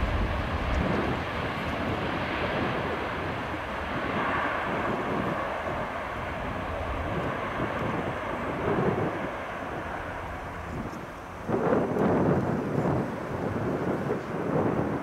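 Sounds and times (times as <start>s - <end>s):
jet engines at high power: 0.0s - 15.0s.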